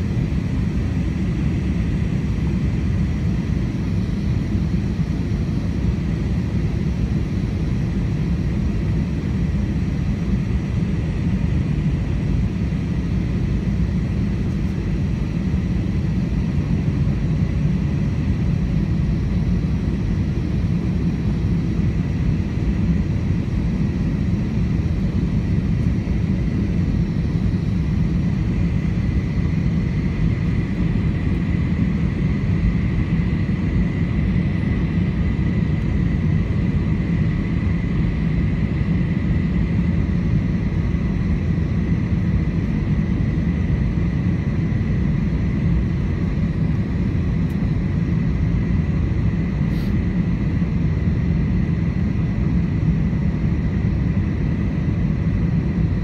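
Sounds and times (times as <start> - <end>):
aircraft engine and airflow rumble: 0.0 - 56.0.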